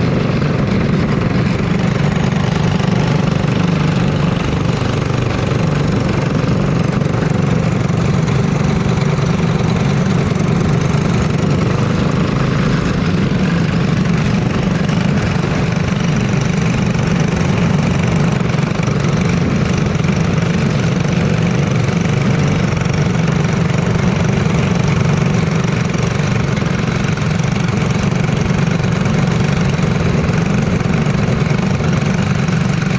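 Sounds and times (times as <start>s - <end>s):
race car engines idling: 0.0s - 32.9s.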